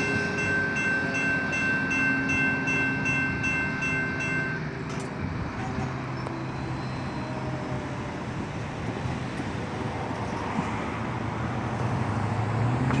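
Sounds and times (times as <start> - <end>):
car engines and road noise: 0.0 - 13.0.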